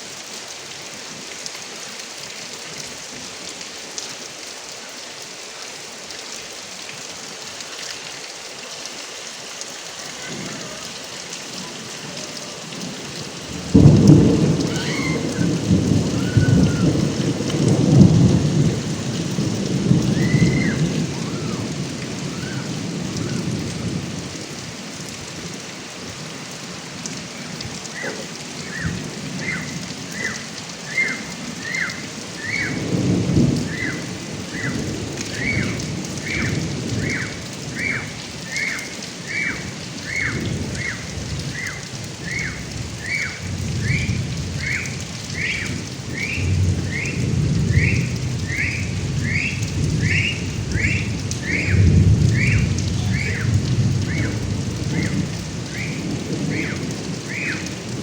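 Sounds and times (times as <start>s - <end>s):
rain pouring off roof spout: 0.0s - 58.0s
thunder rumbling: 10.0s - 58.0s.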